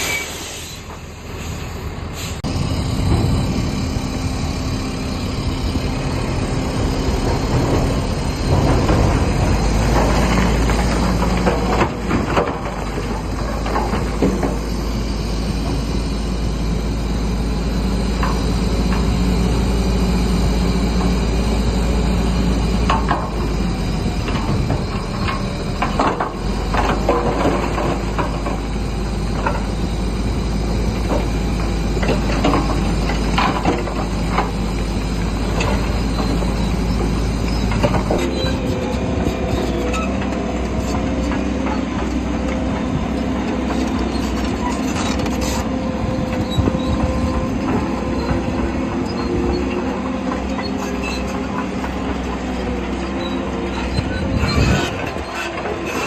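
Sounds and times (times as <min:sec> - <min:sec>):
crawler tracks clanking and squealing: 0:00.0 - 0:16.8, 0:17.7 - 0:56.0
bulldozer engine under load: 0:00.0 - 0:56.0.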